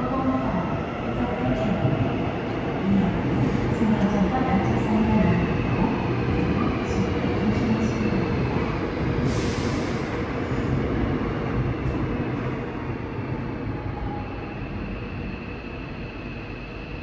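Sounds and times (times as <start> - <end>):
electric train rumbling into station: 0.0 - 17.0.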